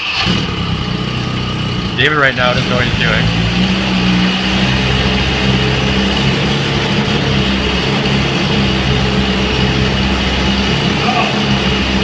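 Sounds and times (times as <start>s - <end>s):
sweeper engine idling: 0.0s - 12.0s.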